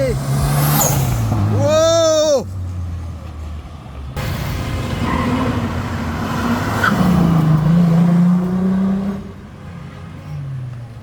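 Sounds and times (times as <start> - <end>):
car engine accelerating: 0.0 - 1.8, 2.5 - 11.0
road and tyre noise: 0.0 - 11.0.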